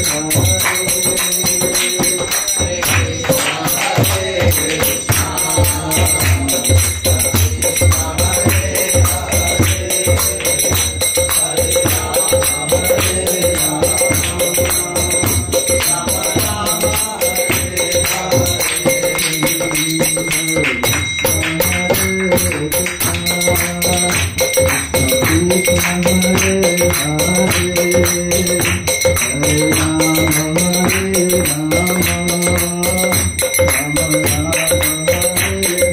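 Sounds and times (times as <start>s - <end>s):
metallic bell-like ringing: 0.0s - 35.9s.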